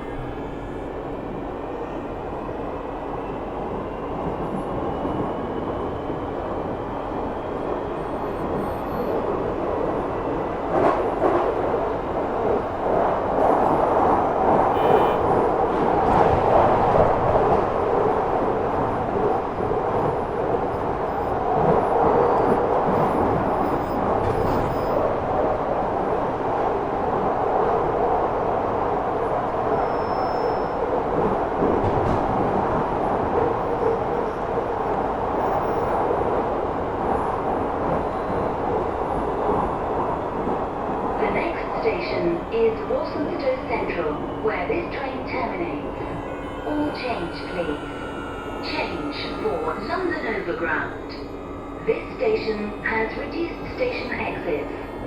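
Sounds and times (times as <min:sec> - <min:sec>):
train tunnel and wheel rumble: 0:00.0 - 0:55.0.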